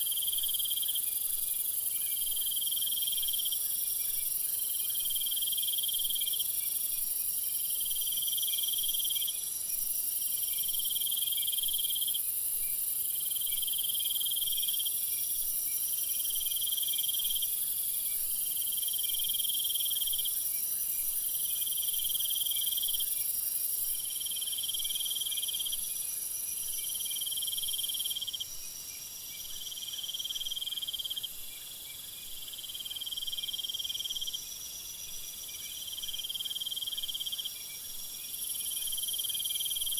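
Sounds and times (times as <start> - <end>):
constant high hiss: 0.0 - 39.9
insects trilling: 0.0 - 39.9.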